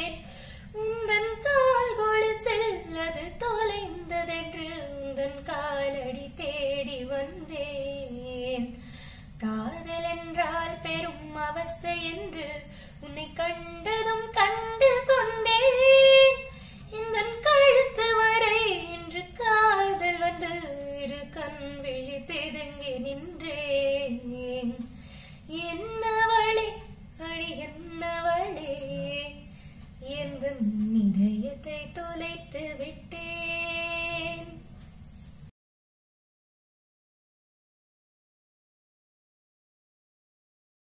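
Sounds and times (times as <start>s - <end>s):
girl singing unaccompanied: 0.0s - 34.8s.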